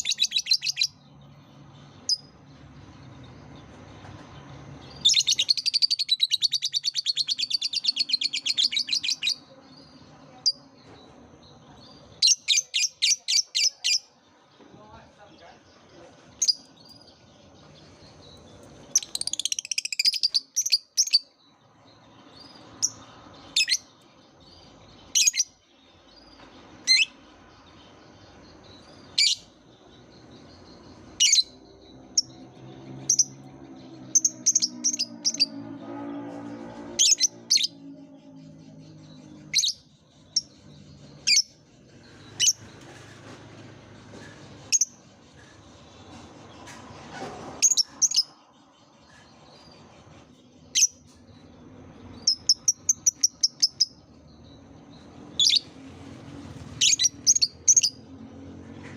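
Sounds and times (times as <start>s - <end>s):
lovebird chirping: 0.0s - 14.5s, 16.3s - 35.6s, 37.0s - 43.0s, 47.6s - 58.1s.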